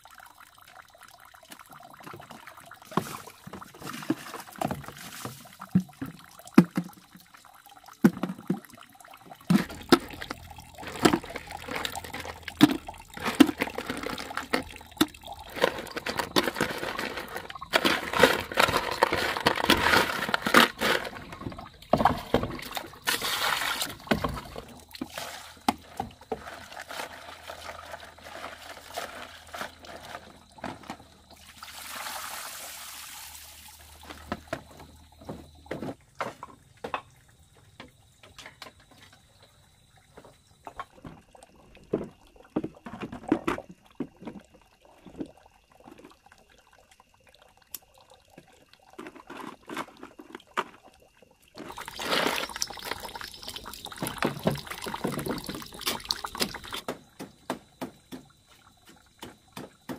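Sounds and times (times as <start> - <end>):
water trickling and pouring: 0.0 - 57.4
water sloshing and splashing: 0.0 - 59.9.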